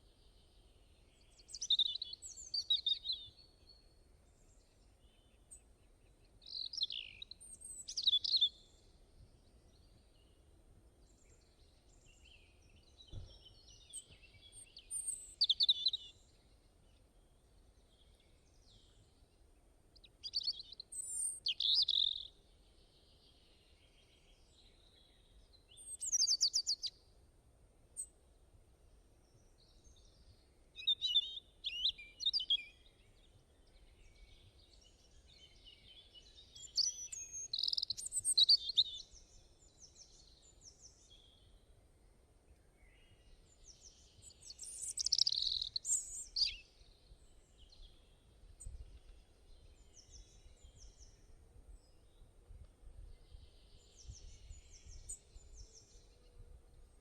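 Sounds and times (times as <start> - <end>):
small birds chirping: 0.0 - 27.0, 29.3 - 41.8, 42.5 - 57.0.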